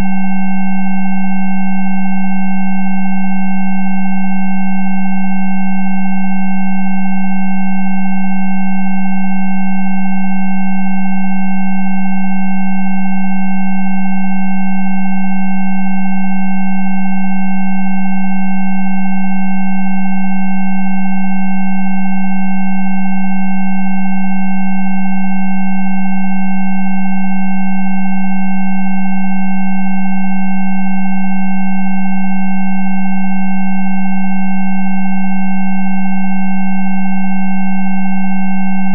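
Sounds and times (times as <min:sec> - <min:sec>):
blended sine tones: 0:00.0 - 0:38.9.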